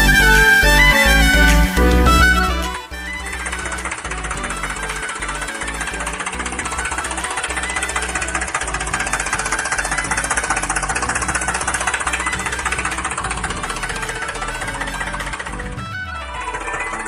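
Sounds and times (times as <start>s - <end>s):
small engine chugging: 2.2s - 17.0s.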